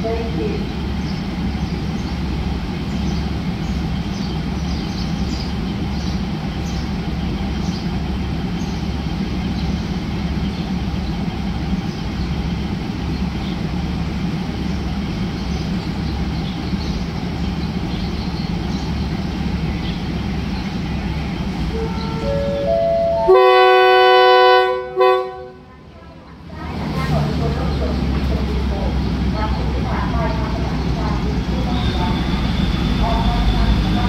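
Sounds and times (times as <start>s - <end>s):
diesel engines idling: 0.0s - 34.0s.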